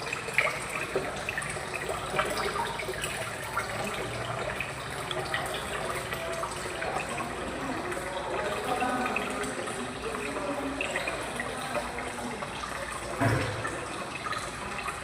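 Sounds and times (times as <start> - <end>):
running splashing water: 0.0 - 15.0.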